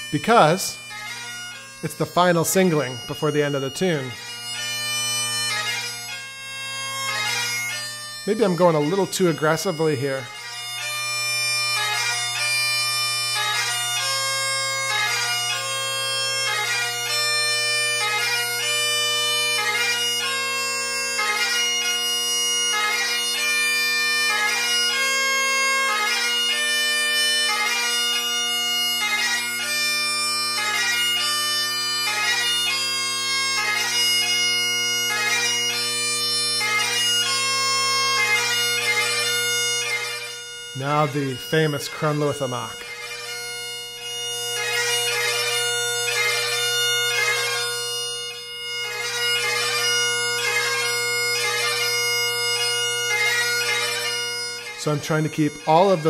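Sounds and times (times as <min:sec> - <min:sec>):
bagpipe playing: 0:00.0 - 0:56.0.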